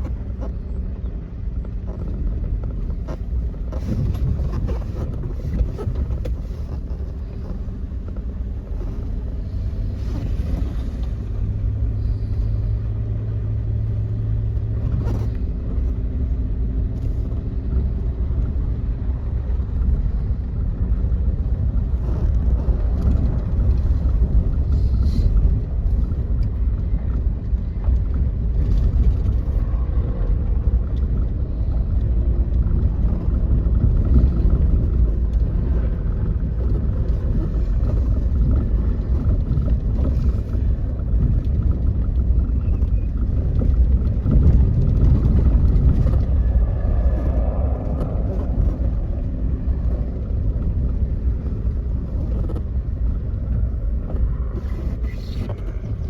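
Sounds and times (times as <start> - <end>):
low rumble: 0.0 - 56.0
low steady hum: 0.0 - 56.0.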